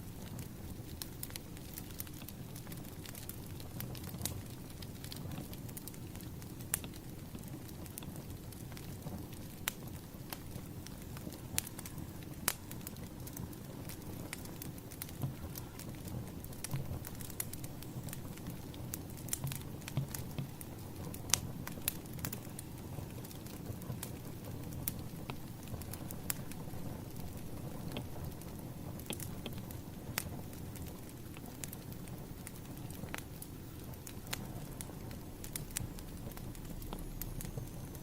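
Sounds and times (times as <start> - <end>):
burning logs rumble: 0.0 - 38.0
wood fire pops and snaps: 0.1 - 38.0.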